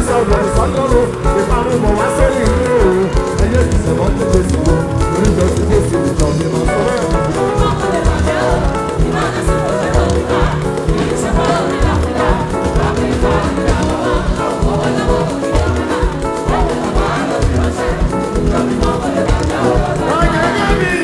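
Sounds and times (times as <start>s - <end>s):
accompanying music with steady beat: 0.0s - 21.0s
choir singing a gospel hymn: 0.0s - 21.0s.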